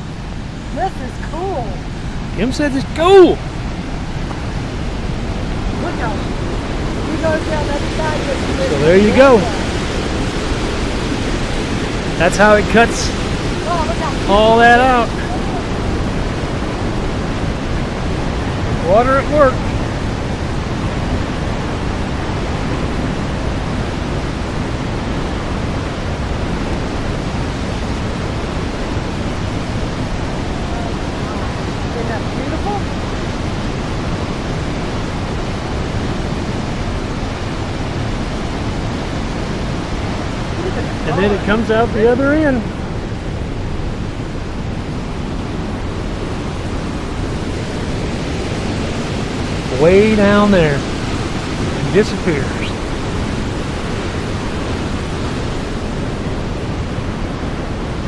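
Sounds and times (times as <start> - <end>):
river whitewater roaring: 0.0 - 58.0.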